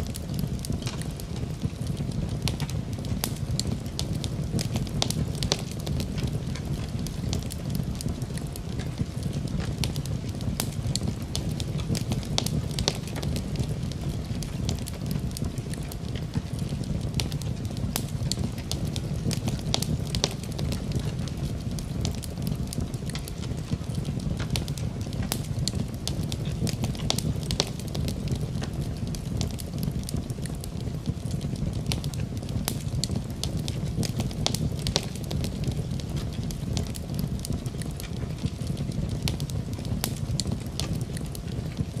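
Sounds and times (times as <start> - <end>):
fire crackling in a fireplace: 0.0 - 42.0.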